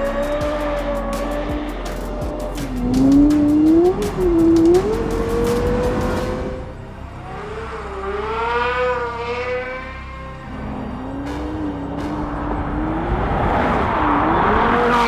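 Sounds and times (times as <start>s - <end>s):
car engine revving: 0.0s - 15.0s
music: 0.0s - 15.0s.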